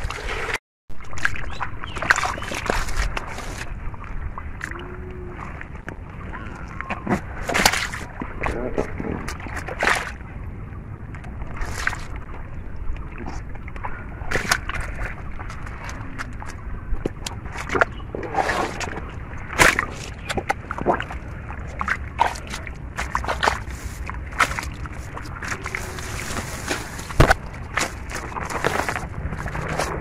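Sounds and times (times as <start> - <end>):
hands sloshing in muddy water: 0.0 - 10.2, 11.2 - 30.0
low steady rumble: 2.8 - 30.0.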